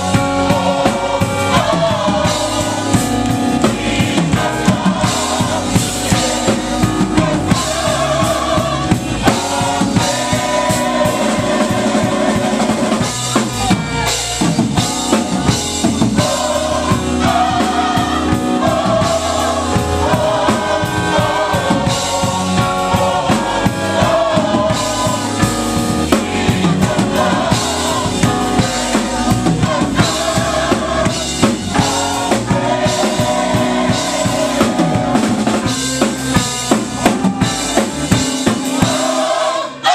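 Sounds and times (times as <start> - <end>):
drum kit busy beat: 0.0 - 39.9
gospel band playing: 0.0 - 39.9
people singing: 0.0 - 39.9.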